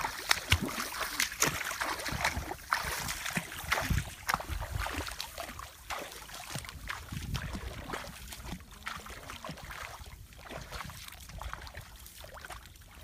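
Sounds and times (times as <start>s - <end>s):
footsteps wading through water: 0.0s - 13.0s.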